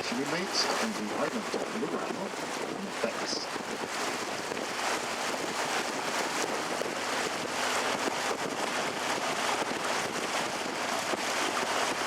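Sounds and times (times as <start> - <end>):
boat rushing noise: 0.0 - 12.0
wind on microphone: 0.0 - 12.0.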